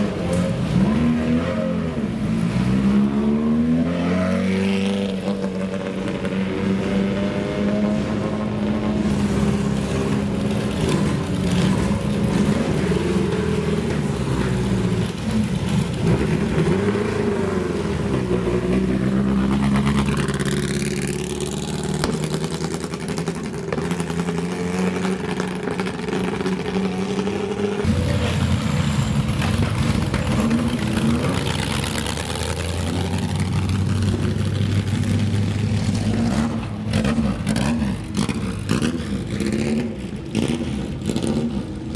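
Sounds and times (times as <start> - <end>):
racing car engine at full throttle: 0.0 - 41.9.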